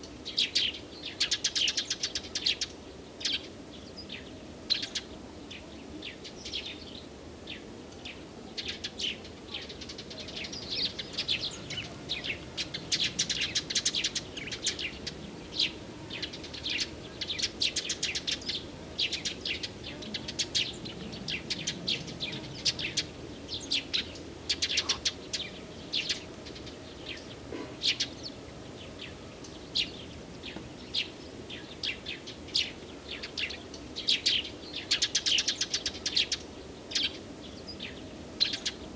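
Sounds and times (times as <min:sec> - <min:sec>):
faint low background noise: 0:00.0 - 0:38.9
songbirds chirping and singing: 0:00.0 - 0:38.9.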